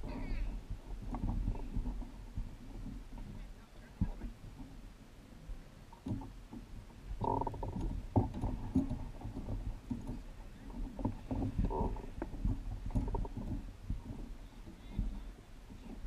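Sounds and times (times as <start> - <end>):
gear knocking against kayak hull: 0.0 - 4.8, 5.9 - 16.0.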